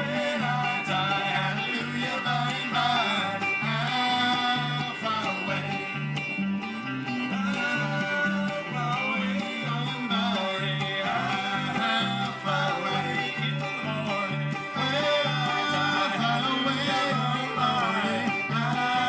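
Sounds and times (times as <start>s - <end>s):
banjo: 0.0s - 19.0s
guitar: 0.0s - 19.0s.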